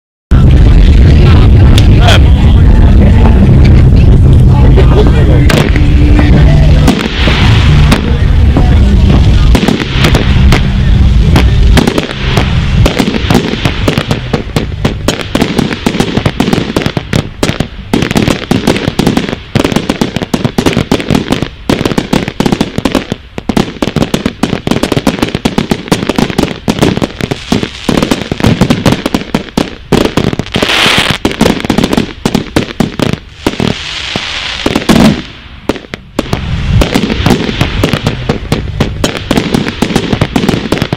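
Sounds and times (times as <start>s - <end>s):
deep firework booms: 0.3s - 40.9s
firework crackling: 0.3s - 40.9s
fireworks exploding: 0.3s - 40.9s.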